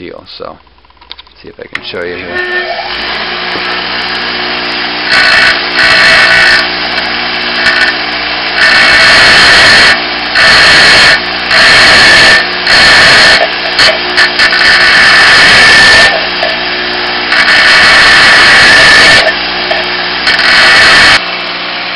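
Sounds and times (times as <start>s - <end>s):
bench grinder motor hum: 1.8s - 21.9s
drill bit grinding on wheel: 2.0s - 21.2s.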